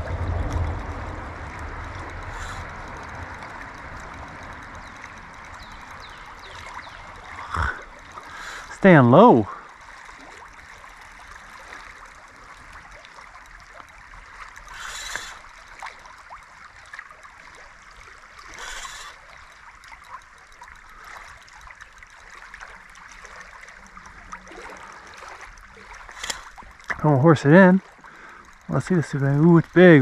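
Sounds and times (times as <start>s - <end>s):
river water rushing: 0.0s - 20.2s, 22.3s - 30.0s.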